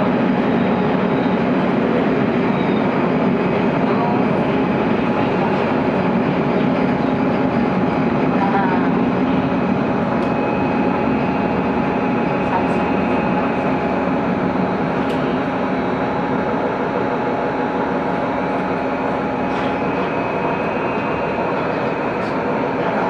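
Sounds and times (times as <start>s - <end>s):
railcar engine and wheels rumbling: 0.0s - 23.0s
thin steady whines: 0.0s - 23.0s.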